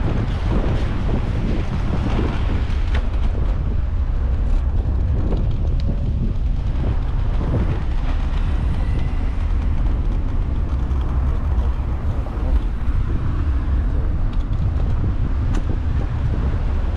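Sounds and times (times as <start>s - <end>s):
road noise: 0.0s - 16.9s
wind buffeting microphone: 0.0s - 16.9s.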